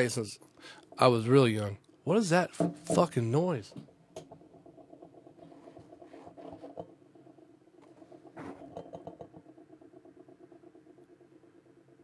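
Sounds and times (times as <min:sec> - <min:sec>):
faint fluttering buzzing hum: 0:00.0 - 0:12.0.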